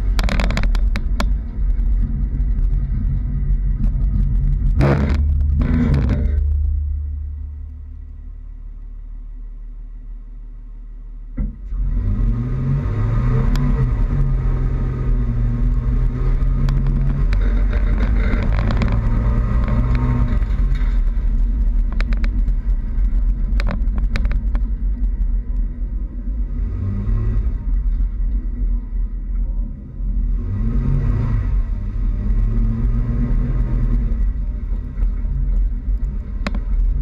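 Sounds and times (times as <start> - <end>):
tyre and road noise: 0.0 - 37.0.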